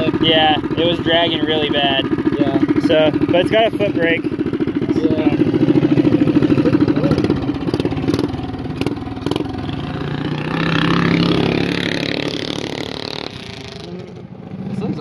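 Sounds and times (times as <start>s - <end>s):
engine passing by: 0.0s - 15.0s
mini bike engine puttering: 0.0s - 15.0s.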